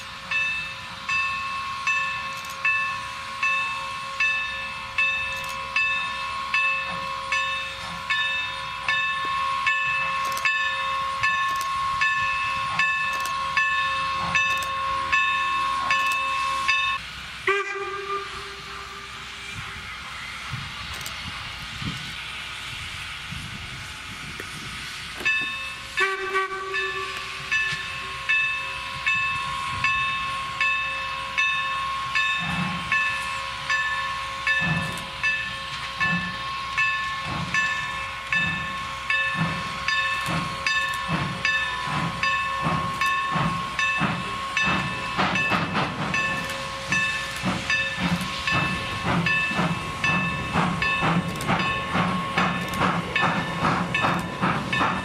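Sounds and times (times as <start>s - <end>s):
train wheels clicking over rail joints: 0.0s - 17.1s, 19.4s - 55.0s
steam hissing: 0.0s - 55.0s
steam locomotive exhaust chuffs: 0.0s - 55.0s.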